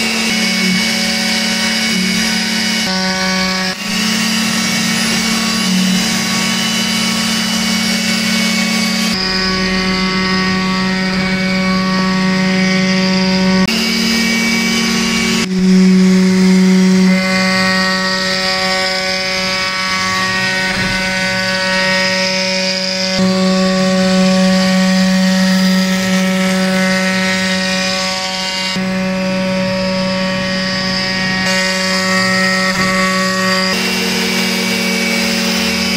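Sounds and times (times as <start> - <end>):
wood router carving wood: 0.0 - 35.9.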